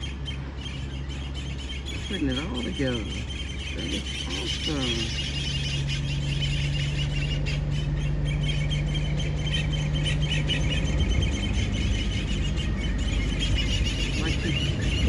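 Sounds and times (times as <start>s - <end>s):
low steady hum: 0.0s - 15.0s
small birds chirping: 0.0s - 15.0s
wind rumble: 0.0s - 15.0s.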